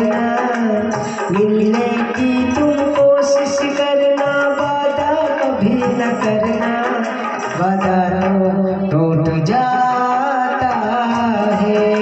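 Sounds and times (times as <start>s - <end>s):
instrumental accompaniment: 0.0s - 12.0s
person singing: 0.0s - 12.0s.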